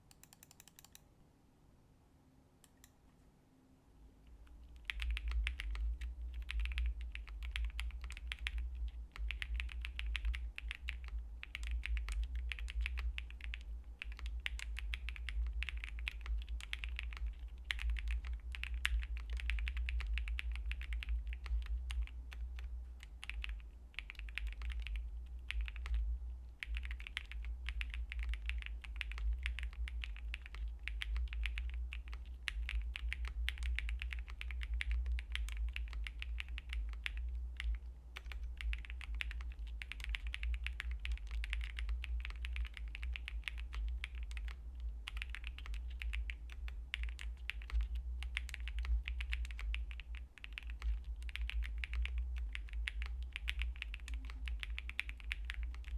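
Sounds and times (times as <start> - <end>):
fast typing on mechanical keyboard: 0.1 - 1.0, 4.6 - 55.9.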